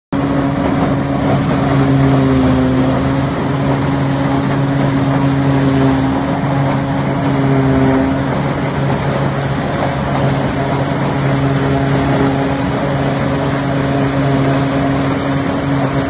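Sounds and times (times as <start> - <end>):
dense mechanical rush: 0.2 - 16.0
harvester engine low hum: 0.2 - 16.0.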